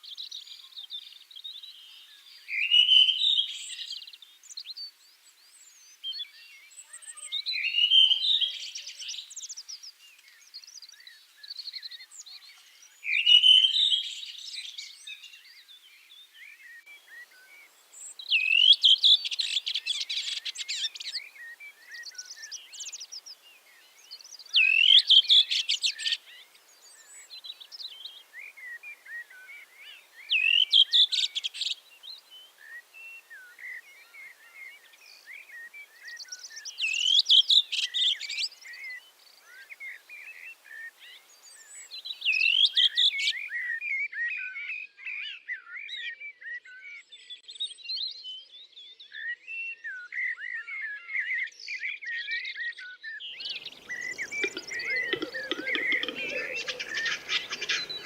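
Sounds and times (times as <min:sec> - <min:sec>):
faint bird chirps: 0:00.0 - 0:52.6, 0:53.2 - 0:58.0
songbird singing trill: 0:00.0 - 0:58.0.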